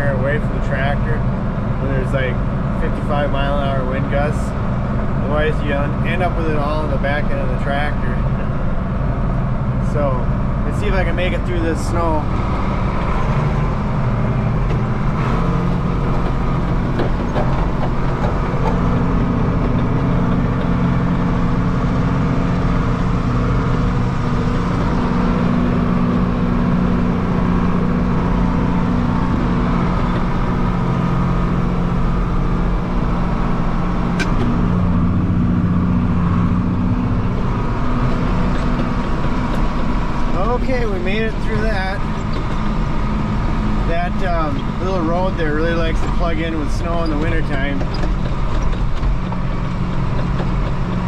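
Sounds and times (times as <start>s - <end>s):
tractor engine under load: 0.0s - 51.0s.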